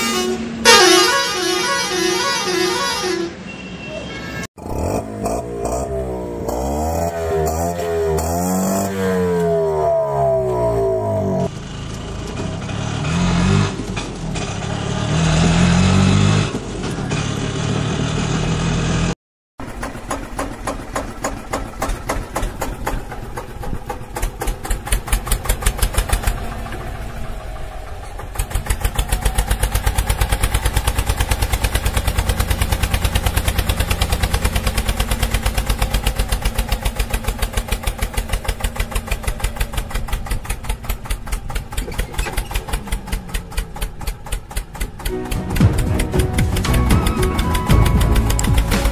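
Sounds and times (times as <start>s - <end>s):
tractor engine putting: 4.6s - 48.9s.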